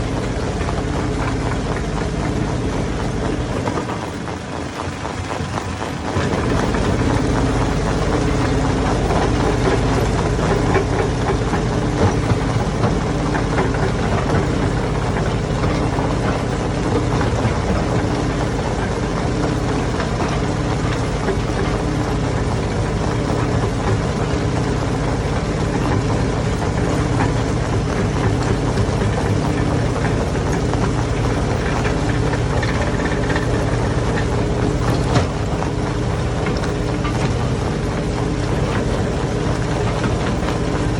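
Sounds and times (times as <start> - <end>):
stone crusher running: 6.1 - 40.9.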